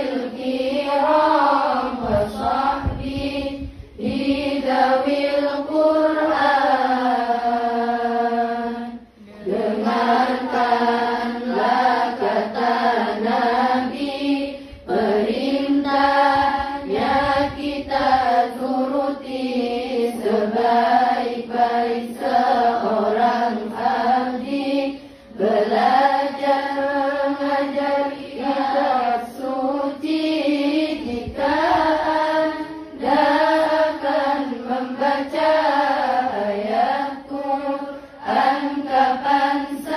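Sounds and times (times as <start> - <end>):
girls chanting in unison: 0.0 - 39.9.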